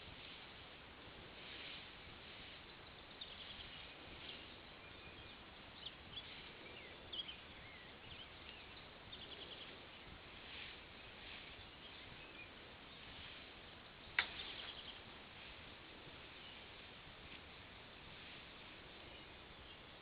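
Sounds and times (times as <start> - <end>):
outdoor background noise: 0.0 - 20.0
small birds chirping and trilling: 0.0 - 20.0.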